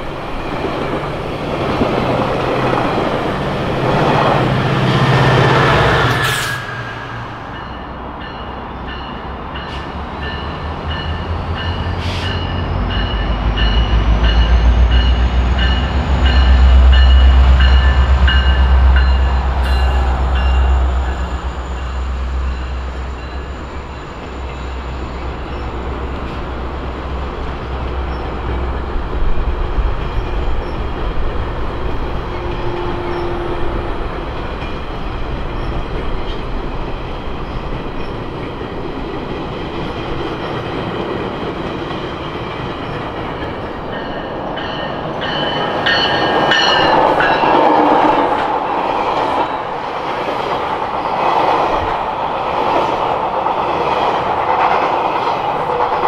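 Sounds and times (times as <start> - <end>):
diesel locomotive engine rumble: 0.0 - 56.0
train wheels rolling: 0.0 - 56.0.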